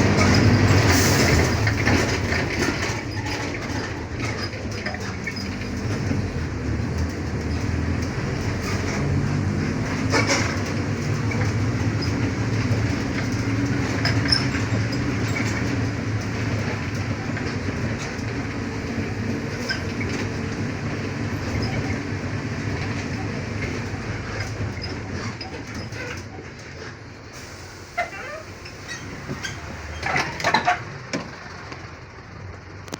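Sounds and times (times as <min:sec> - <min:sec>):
diesel bus engine droning: 0:00.0 - 0:32.9.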